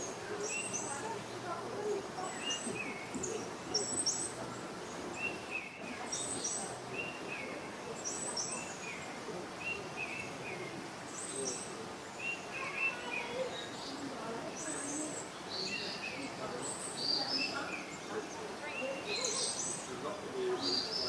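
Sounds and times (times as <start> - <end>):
background murmur: 0.0 - 21.0.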